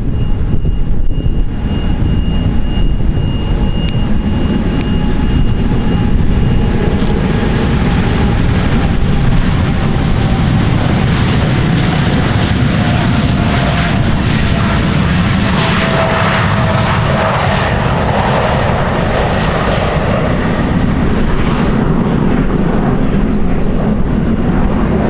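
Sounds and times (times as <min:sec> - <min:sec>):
jet engines hissing and whining: 0:00.0 - 0:25.0
wind rumble on microphone: 0:00.0 - 0:25.0.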